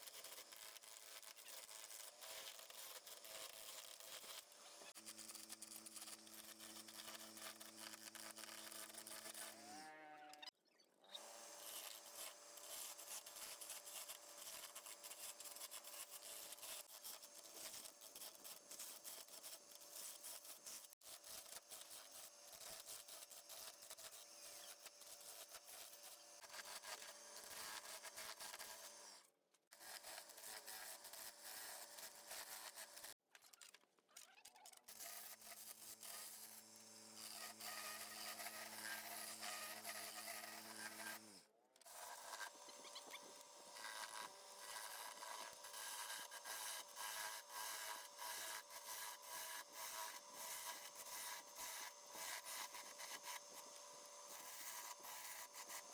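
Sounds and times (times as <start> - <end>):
lathe tool scraping wood: 0.0 - 9.8, 11.2 - 29.2, 35.1 - 55.9.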